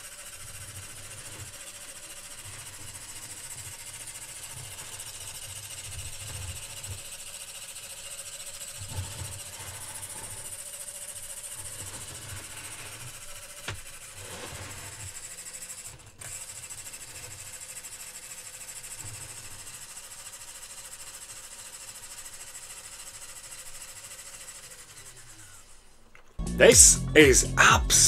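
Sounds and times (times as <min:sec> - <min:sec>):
small electric motor whirring: 0:00.0 - 0:26.2.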